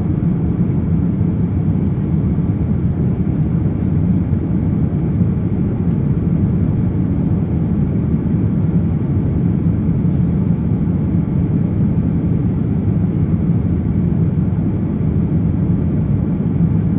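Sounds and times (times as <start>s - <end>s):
airplane cabin roar: 0.0s - 16.9s.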